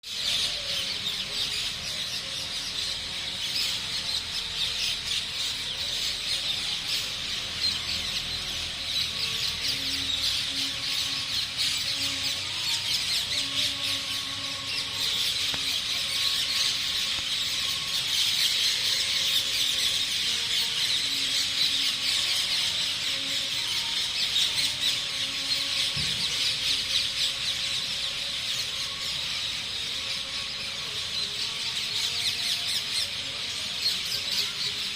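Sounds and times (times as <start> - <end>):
birds chirping and squawking: 0.0 - 34.9.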